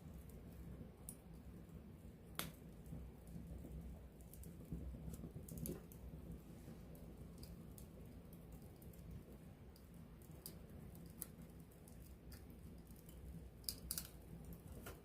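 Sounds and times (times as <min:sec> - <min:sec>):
burning wood crackling and popping: 0:00.0 - 0:15.0
flames rumbling: 0:00.0 - 0:15.0.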